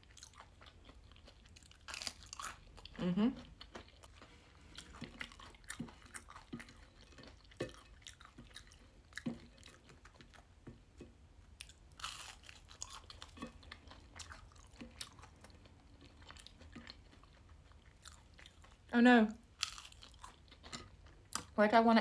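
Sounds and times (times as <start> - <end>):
chewing crispy food: 0.0 - 21.6.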